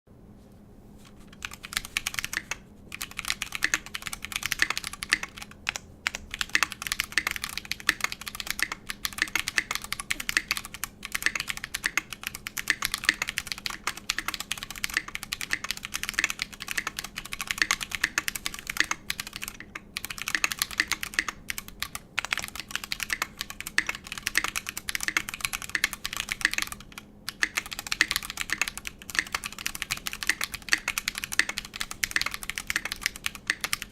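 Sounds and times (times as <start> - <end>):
fast mechanical keyboard typing: 1.3 - 33.9.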